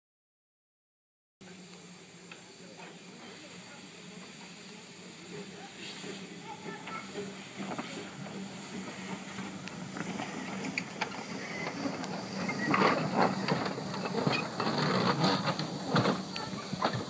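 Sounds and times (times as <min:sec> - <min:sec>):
steam hiss: 0:01.4 - 0:17.0
steam locomotive chuffs and clanks: 0:01.4 - 0:17.0.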